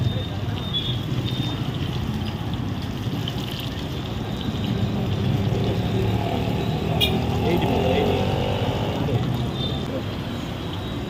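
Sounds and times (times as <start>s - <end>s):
oil sizzling and bubbling: 0.0s - 8.9s.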